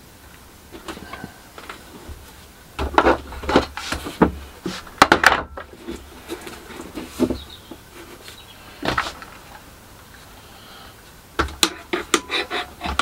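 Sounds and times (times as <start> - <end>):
wood knocking and scraping: 0.8 - 9.6, 11.4 - 13.0.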